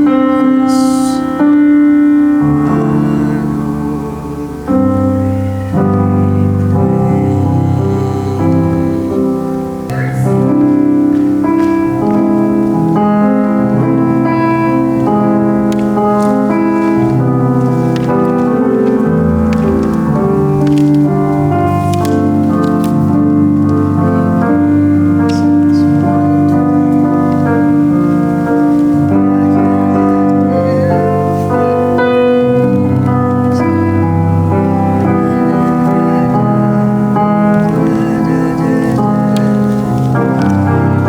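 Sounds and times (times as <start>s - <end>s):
piano playing a slow hymn: 0.0s - 41.0s.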